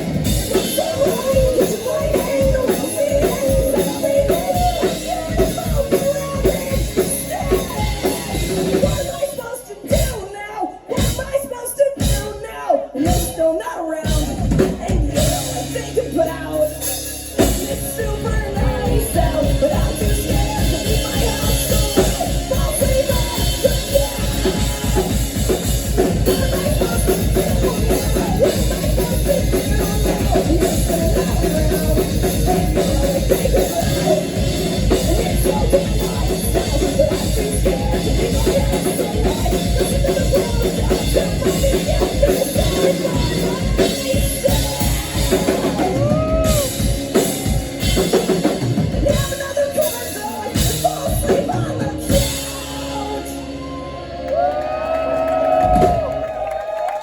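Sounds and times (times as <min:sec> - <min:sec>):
drums with fast steady beat: 0:00.0 - 0:53.8, 0:54.4 - 0:57.0
live rock band playing: 0:00.0 - 0:57.0.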